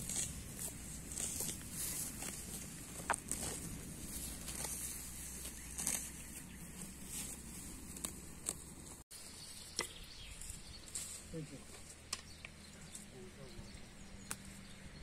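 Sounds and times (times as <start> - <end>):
rustling in long grass: 0.0 - 12.1.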